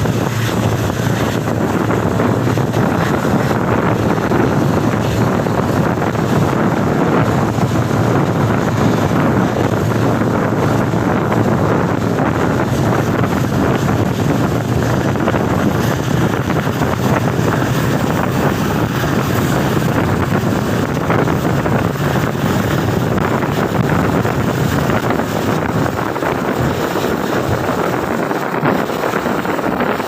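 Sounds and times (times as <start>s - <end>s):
train rumbling at speed: 0.0s - 30.0s
wind on microphone: 0.0s - 30.0s.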